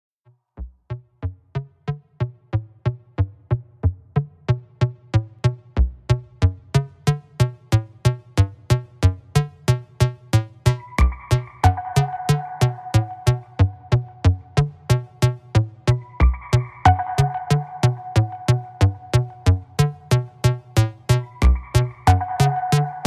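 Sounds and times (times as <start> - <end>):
electronic music with drum-machine beat: 0.6 - 23.0.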